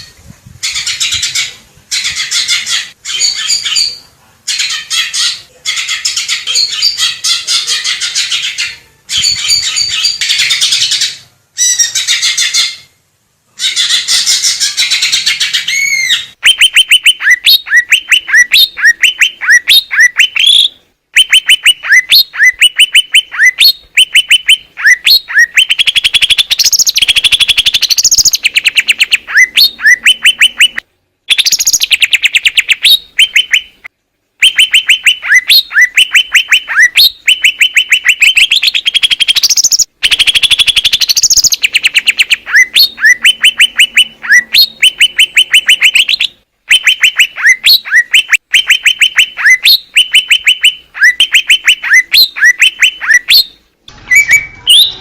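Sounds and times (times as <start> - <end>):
bird singing: 0.7 - 13.0, 13.6 - 33.8, 34.4 - 55.0.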